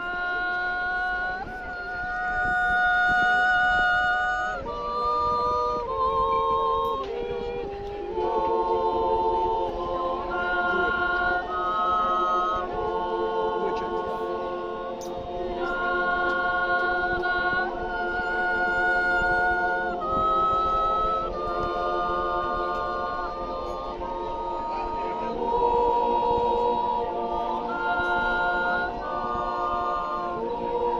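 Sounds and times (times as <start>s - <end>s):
high sustained voice: 0.0s - 30.9s
yodel choir singing in harmony: 0.0s - 30.9s.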